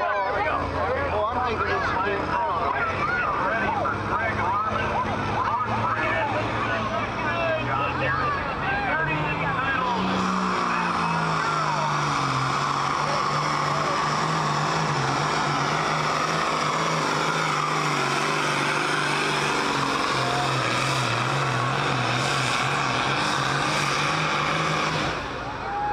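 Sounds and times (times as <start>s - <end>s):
tractor diesel engine droning: 0.0s - 25.9s.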